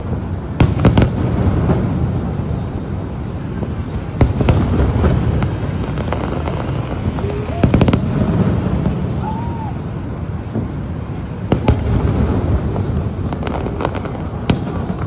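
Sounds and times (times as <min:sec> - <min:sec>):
sharp firework bangs: 0:00.0 - 0:09.8, 0:11.4 - 0:15.0
fireworks rumbling: 0:00.0 - 0:15.0.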